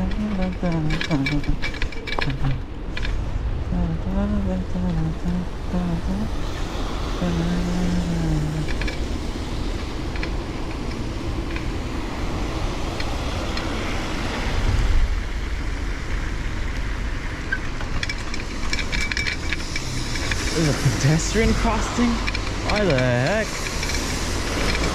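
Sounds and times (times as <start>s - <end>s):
bicycle on wet road: 0.0s - 24.9s
nearby traffic: 0.0s - 24.9s
rain: 0.0s - 24.9s.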